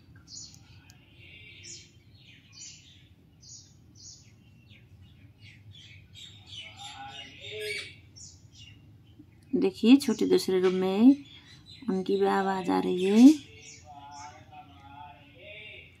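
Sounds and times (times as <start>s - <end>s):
parakeets chirping: 0.2s - 15.8s.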